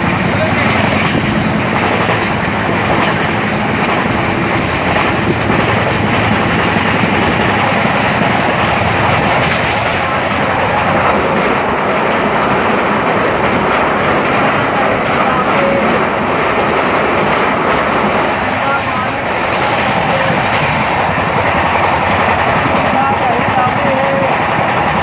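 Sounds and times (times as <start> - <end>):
rushing air: 0.0 - 23.6
train wheels rumbling on rails: 0.0 - 25.0.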